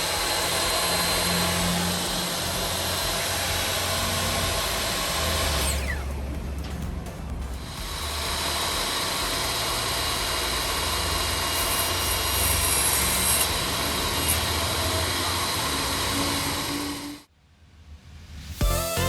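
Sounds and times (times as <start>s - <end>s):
table saw whirring: 0.0s - 6.2s, 7.6s - 17.3s.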